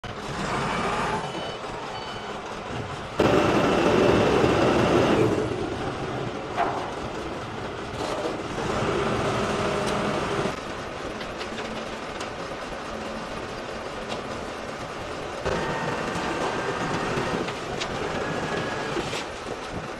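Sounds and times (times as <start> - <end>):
diesel engine under load: 0.0 - 19.9.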